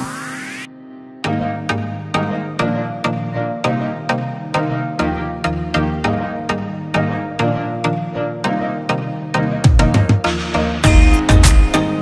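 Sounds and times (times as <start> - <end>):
electronic music with synth and beat: 0.0 - 12.0.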